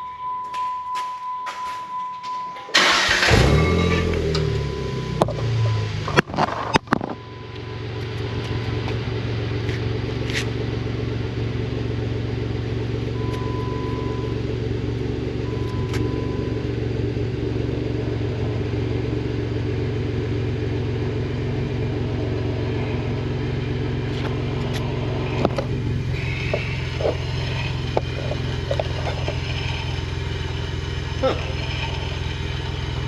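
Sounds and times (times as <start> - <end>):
car engine idling: 2.6 - 33.0.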